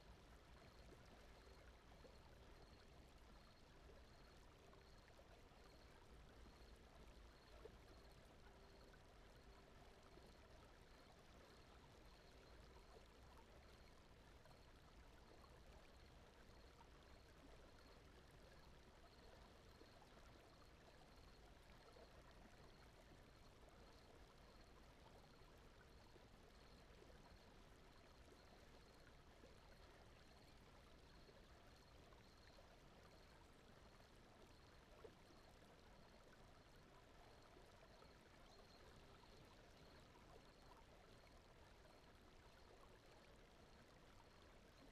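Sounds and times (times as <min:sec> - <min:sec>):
faint high pulsing tone: 0:00.0 - 0:44.9.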